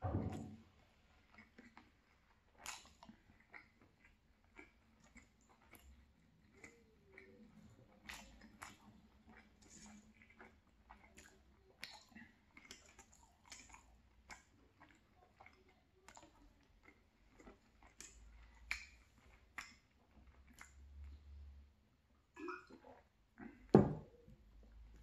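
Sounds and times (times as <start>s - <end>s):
wet chewing clicks and smacks: 1.1s - 25.0s.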